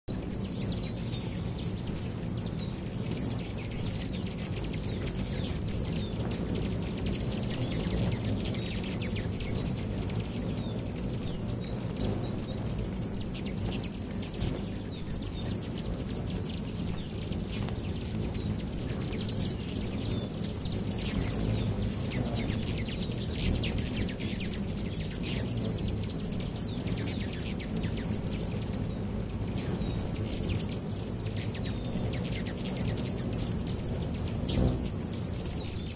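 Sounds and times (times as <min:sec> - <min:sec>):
hummingbird wings humming: 0:00.1 - 0:35.9
hummingbird chip calls: 0:00.2 - 0:35.9.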